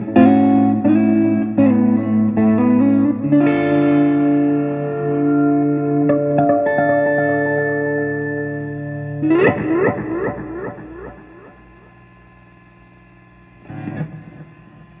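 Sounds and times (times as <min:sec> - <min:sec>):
gliding guitar note echoes: 0:00.0 - 0:14.8
electric guitar chord: 0:00.0 - 0:15.0.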